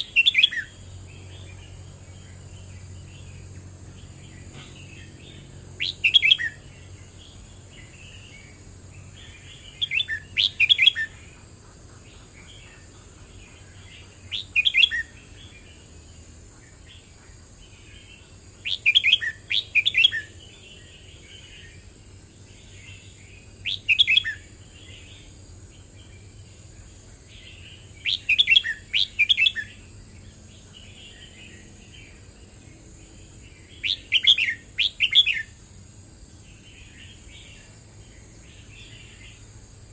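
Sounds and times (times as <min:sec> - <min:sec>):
bird singing bright phrases: 0:00.0 - 0:35.6, 0:36.3 - 0:39.9
soft bird twittering: 0:00.0 - 0:35.6.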